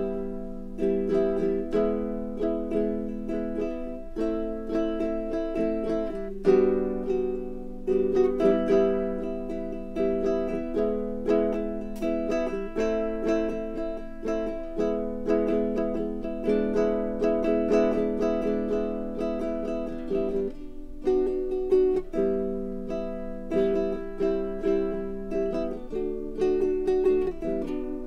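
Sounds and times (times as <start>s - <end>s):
plucked ukulele: 0.0s - 28.0s.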